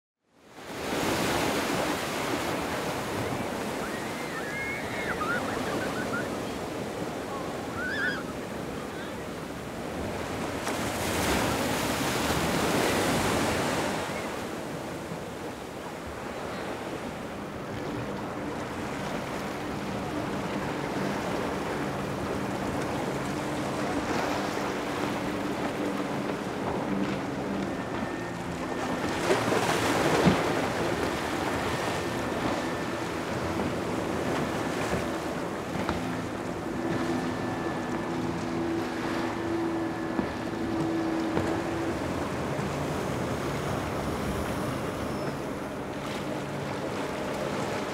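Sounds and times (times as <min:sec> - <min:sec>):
boat engine humming: 0:00.4 - 0:47.9
surf washing: 0:00.5 - 0:47.9.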